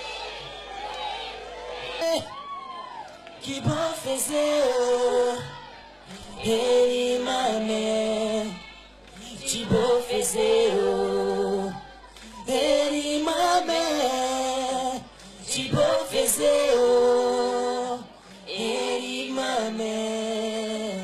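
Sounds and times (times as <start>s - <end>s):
voices singing in harmony: 3.4s - 21.0s.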